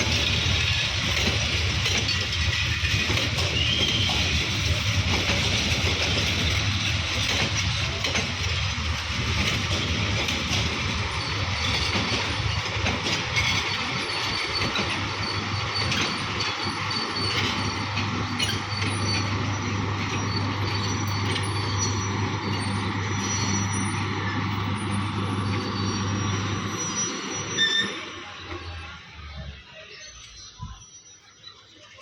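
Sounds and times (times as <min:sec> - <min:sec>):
train rumbling on rails: 0:00.0 - 0:32.0
wheels squealing: 0:00.0 - 0:32.0.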